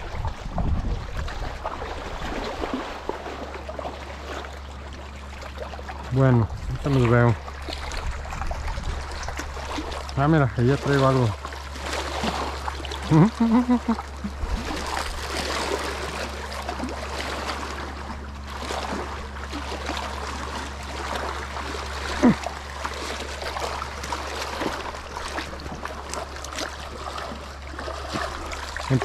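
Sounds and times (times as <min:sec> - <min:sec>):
waves lapping against rocks: 0:00.0 - 0:29.0.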